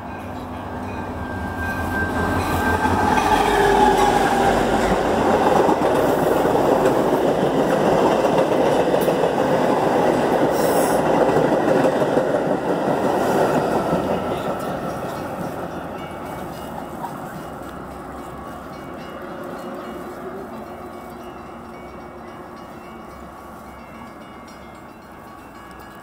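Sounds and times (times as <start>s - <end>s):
diesel locomotive engine rumble: 0.0s - 26.0s
train wheels on rails: 0.0s - 26.0s.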